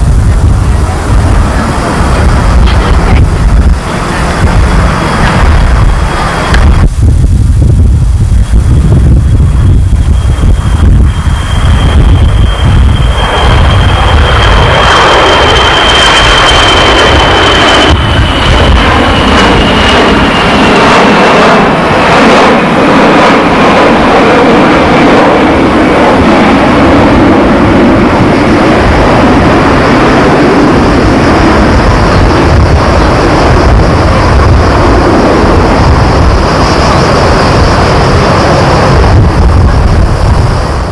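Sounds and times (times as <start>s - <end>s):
jet airliner passing overhead: 0.0s - 40.9s
jet engine whine falling in pitch: 0.0s - 40.9s.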